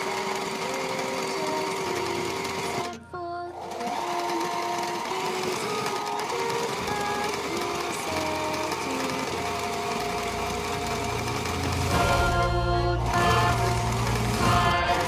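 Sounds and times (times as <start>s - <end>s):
background music: 0.0s - 15.0s
sewing machine running: 0.0s - 15.0s.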